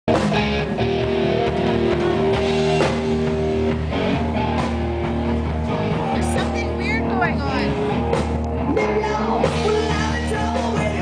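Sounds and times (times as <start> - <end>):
drum kit: 0.1 - 11.0
electric guitar chords: 0.1 - 11.0.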